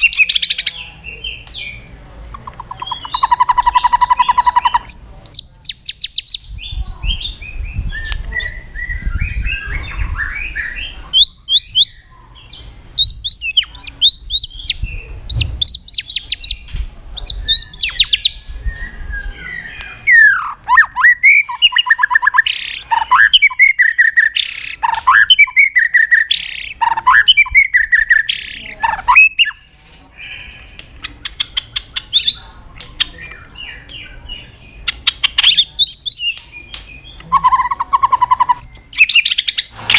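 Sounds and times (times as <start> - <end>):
songbird singing whistles and trills: 2.4 - 29.7, 33.0 - 39.7.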